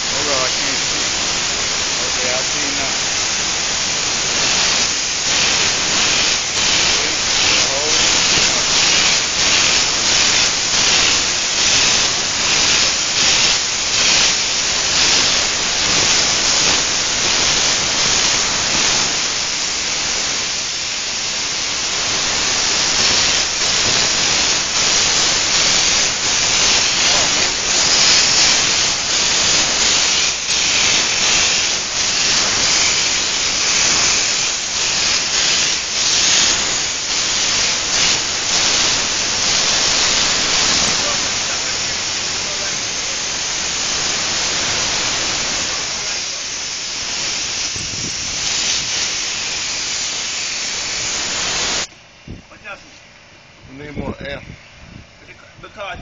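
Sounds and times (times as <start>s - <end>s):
spray gun hissing: 0.0s - 51.9s.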